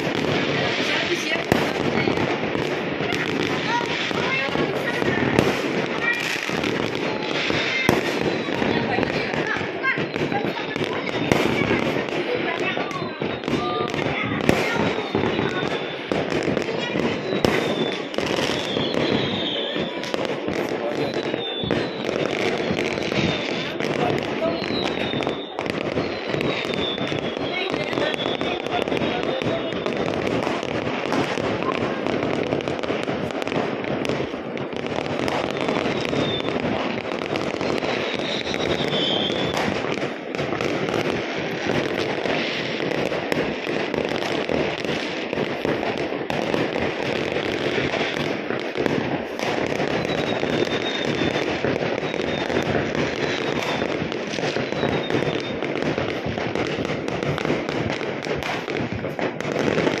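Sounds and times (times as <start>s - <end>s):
fireworks crackling and popping: 0.0s - 60.0s.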